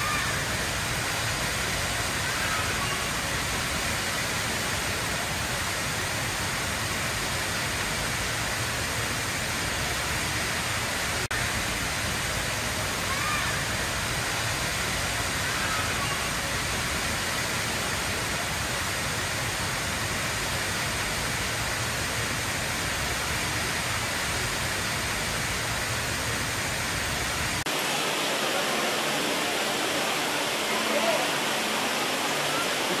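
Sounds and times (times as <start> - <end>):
indoor waterfall rushing: 0.0 - 33.0
waterfall hiss: 0.0 - 33.0.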